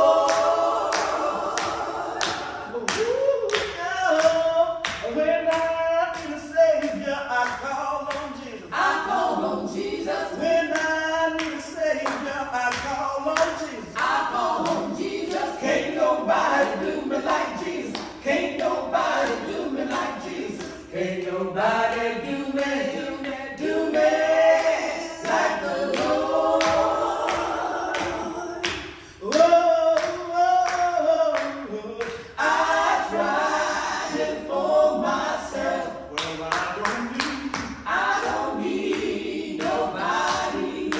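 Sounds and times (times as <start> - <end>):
gospel singers singing: 0.0 - 40.9
hand claps: 0.2 - 8.5, 10.7 - 33.0, 36.2 - 40.9.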